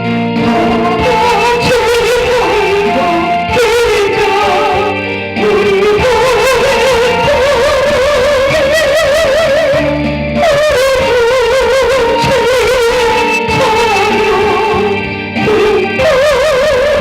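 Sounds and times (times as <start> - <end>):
instrumental backing: 0.0 - 17.0
person singing a hymn with vibrato: 0.0 - 17.0.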